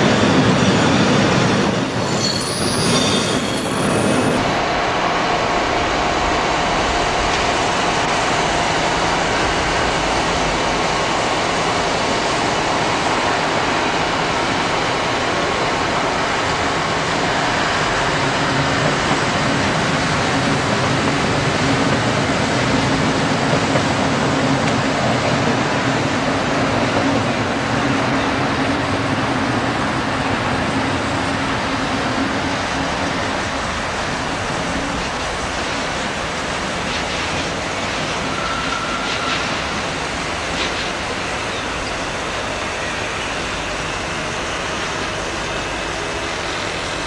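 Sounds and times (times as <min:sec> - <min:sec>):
train rushing on rails: 0:00.0 - 0:47.0.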